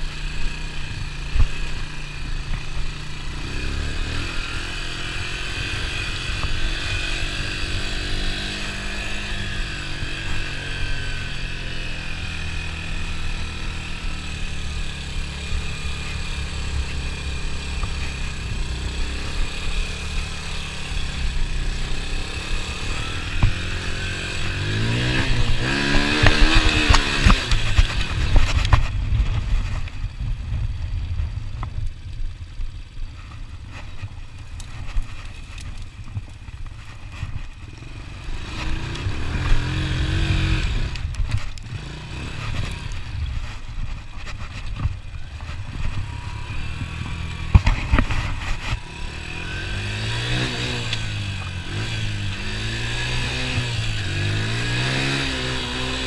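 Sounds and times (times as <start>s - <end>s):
quad engine revving: 0.0s - 29.9s, 37.0s - 56.0s.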